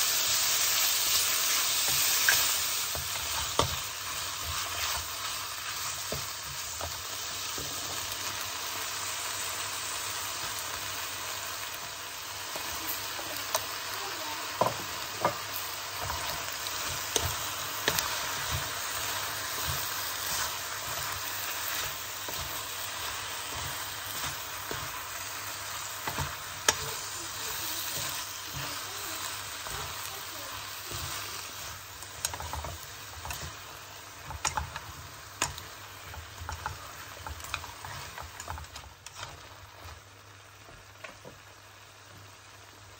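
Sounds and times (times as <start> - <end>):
food sizzling in a wok: 0.0 - 42.9
wooden spatula stirring: 0.2 - 8.4, 12.4 - 41.4.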